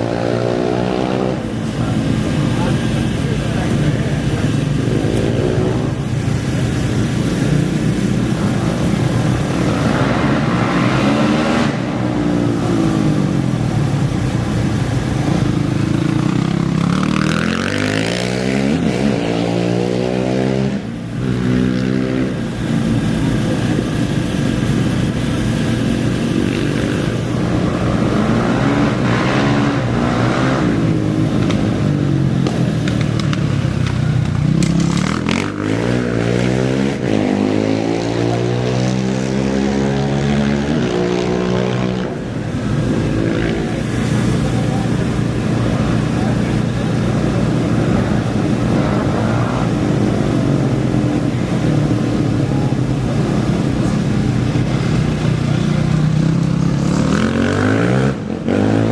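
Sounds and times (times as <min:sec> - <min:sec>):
racing engines revving: 0:00.0 - 0:58.9.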